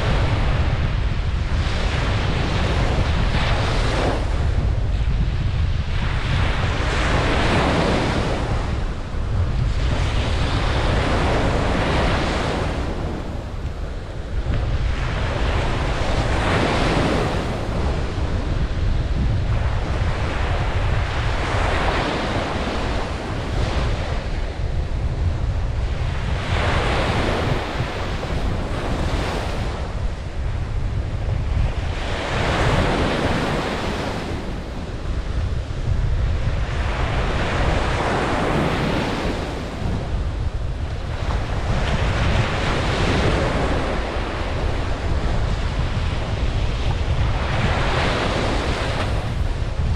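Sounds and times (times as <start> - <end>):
ocean waves breaking on beach: 0.0 - 49.9
wind rumble on microphone: 0.0 - 49.9.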